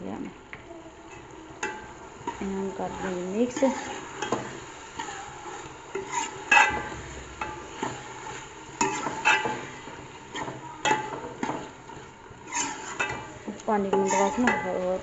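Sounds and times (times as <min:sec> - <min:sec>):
faint sizzle: 0:00.0 - 0:15.0
spoon scraping metal pot: 0:01.1 - 0:14.9.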